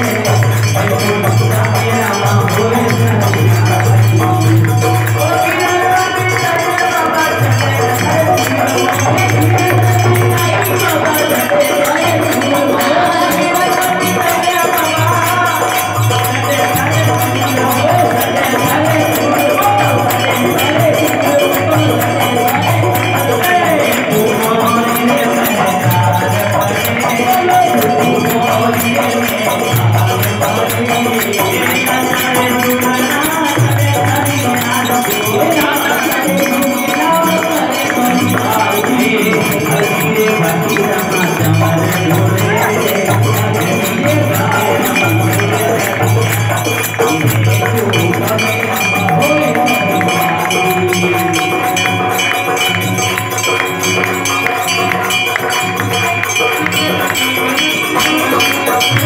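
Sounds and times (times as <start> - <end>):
devotional music: 0.0 - 59.0
jingling percussion: 0.0 - 59.0.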